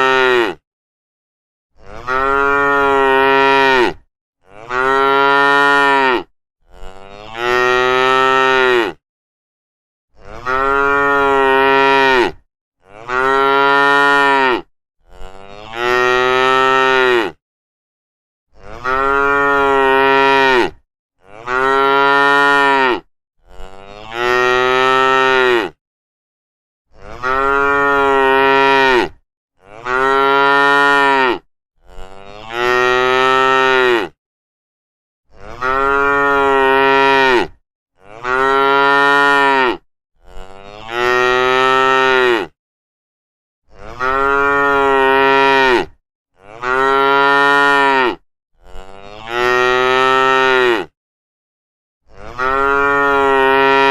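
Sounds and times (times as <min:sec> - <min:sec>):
cows mooing: 0:01.8 - 0:09.0, 0:10.2 - 0:17.4, 0:18.7 - 0:25.8, 0:27.0 - 0:34.2, 0:35.4 - 0:42.5, 0:43.8 - 0:50.9, 0:52.2 - 0:53.9.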